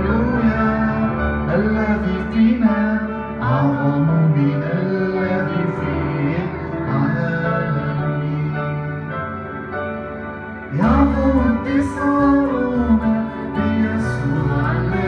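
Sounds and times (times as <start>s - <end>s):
man singing: 0.0s - 9.4s, 10.7s - 15.0s
electronic keyboard: 0.0s - 15.0s.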